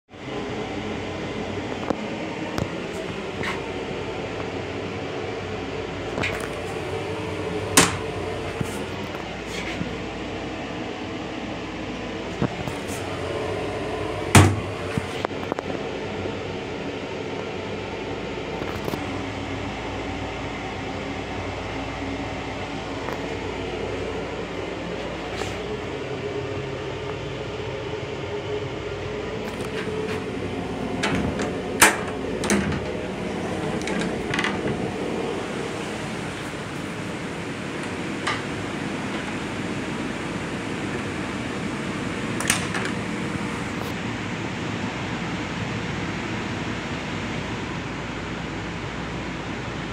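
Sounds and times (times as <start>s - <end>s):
rail car ventilation hum: 0.1s - 49.9s.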